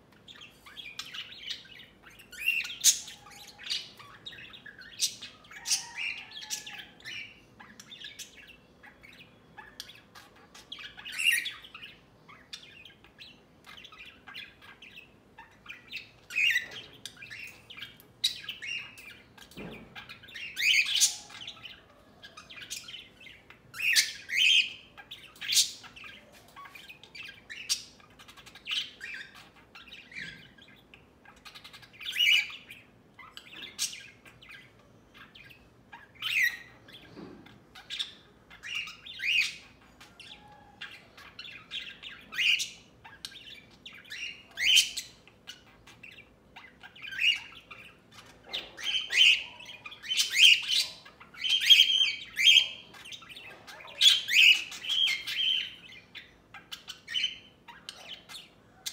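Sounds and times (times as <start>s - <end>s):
budgerigars chattering: 0.2s - 58.9s.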